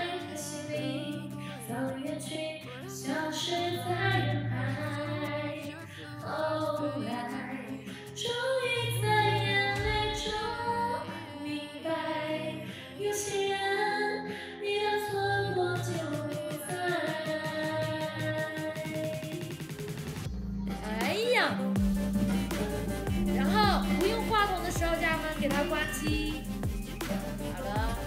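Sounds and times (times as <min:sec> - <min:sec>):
karaoke backing track with bass: 0:00.0 - 0:11.2, 0:15.0 - 0:19.5, 0:20.5 - 0:28.0
woman singing into microphone: 0:00.0 - 0:19.6, 0:22.3 - 0:26.5, 0:27.4 - 0:28.0.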